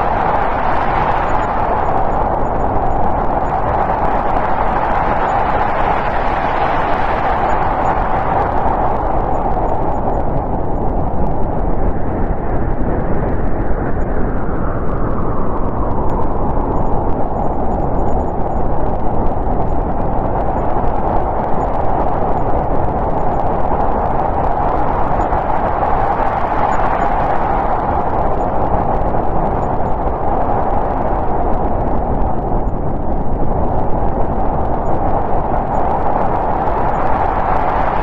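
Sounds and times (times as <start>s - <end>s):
storm wind howling: 0.0s - 38.0s.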